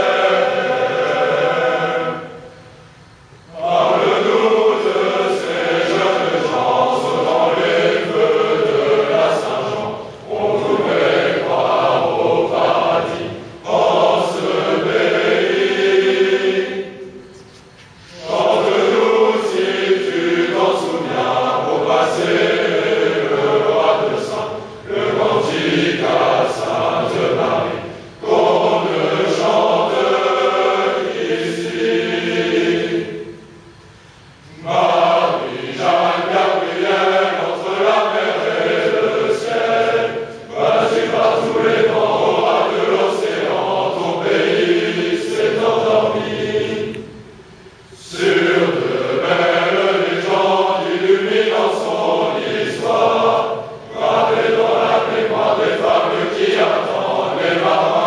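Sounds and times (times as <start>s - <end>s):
choir singing: 0.0s - 2.8s, 3.4s - 17.4s, 18.0s - 33.7s, 34.4s - 58.0s.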